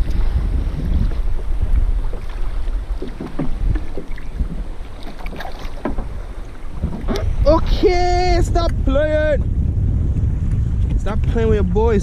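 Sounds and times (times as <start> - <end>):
sea water splashing around kayak: 0.0 - 12.0
wind rumbling on microphone: 0.0 - 12.0.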